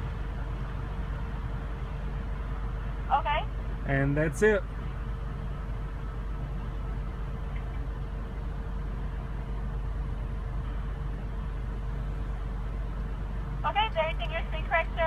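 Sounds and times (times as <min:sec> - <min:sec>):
car engine idling: 0:00.0 - 0:15.0
faint constant hum: 0:00.0 - 0:15.0.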